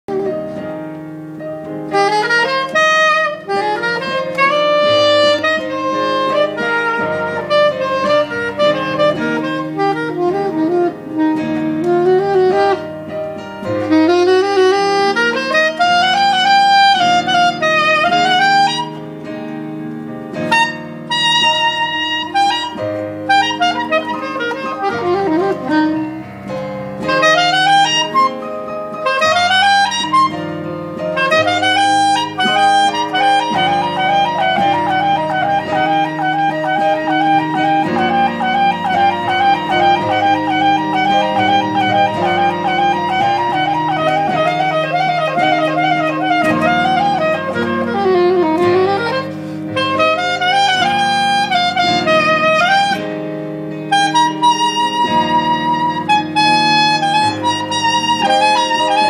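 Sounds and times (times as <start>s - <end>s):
soprano saxophone melody: 0.0s - 59.0s.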